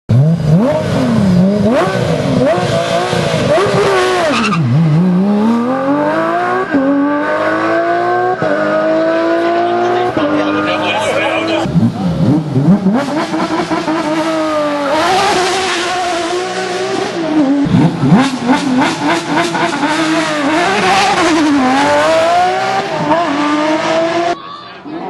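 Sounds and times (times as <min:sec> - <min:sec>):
racing car engine shifting gears: 0:00.1 - 0:24.4.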